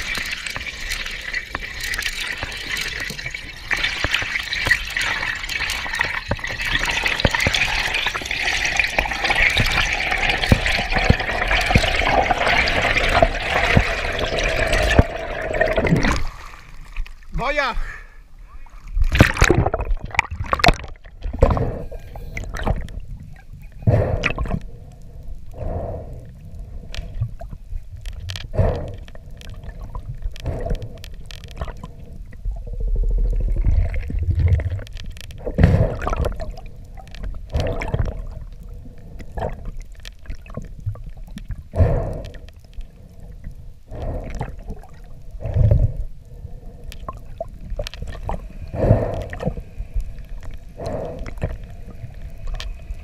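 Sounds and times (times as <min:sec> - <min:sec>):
water rushing underwater: 0:00.0 - 0:17.4, 0:18.8 - 0:53.0
faint steady hum: 0:00.1 - 0:53.0.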